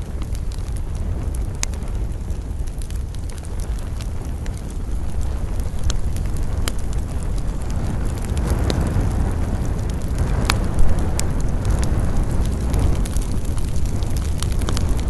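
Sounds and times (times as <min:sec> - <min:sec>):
campfire rumbling: 0:00.0 - 0:15.0
wood crackling and popping: 0:00.0 - 0:15.0.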